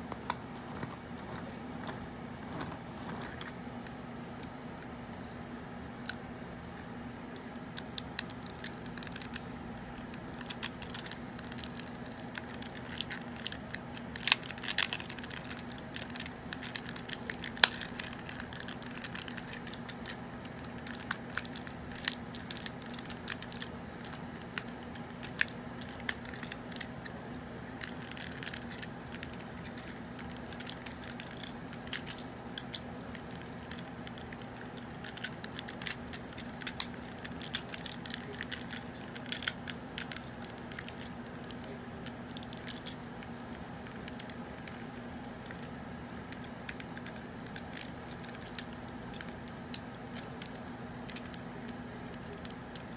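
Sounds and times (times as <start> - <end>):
steady low hum: 0.0 - 52.9
plastic toy parts clicking and snapping: 7.4 - 26.9, 27.8 - 44.8, 46.3 - 52.9.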